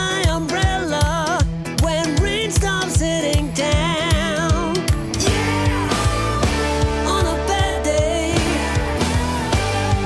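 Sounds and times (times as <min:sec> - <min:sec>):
rock song with drum beat: 0:00.0 - 0:10.0.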